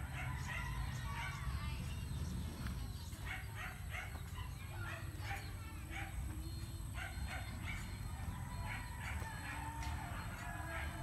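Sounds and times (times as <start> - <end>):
dog yipping: 0.0 - 1.5, 3.2 - 11.0.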